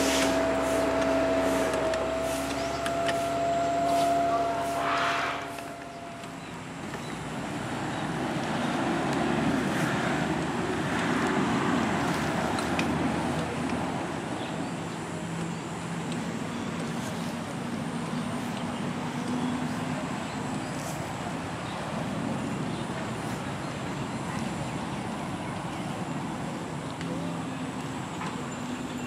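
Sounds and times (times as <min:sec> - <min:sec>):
low engine hum: 0:00.0 - 0:29.0
vehicle rush: 0:00.0 - 0:29.0.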